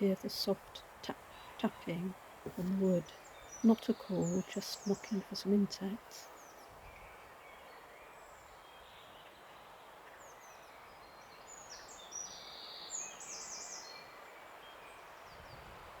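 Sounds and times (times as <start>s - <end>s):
songbirds singing: 0.0s - 16.0s
steady outdoor hiss: 0.0s - 16.0s.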